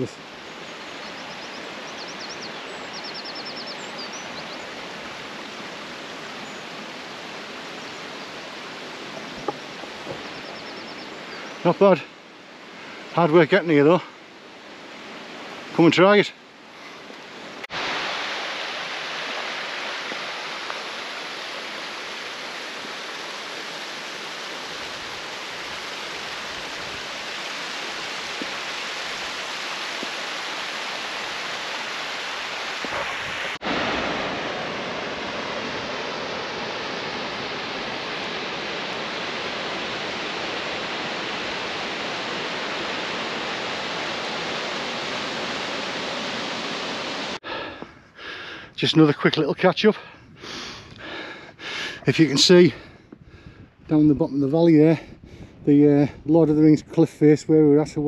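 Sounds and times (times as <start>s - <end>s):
rushing water: 0.0s - 49.9s, 51.0s - 52.9s.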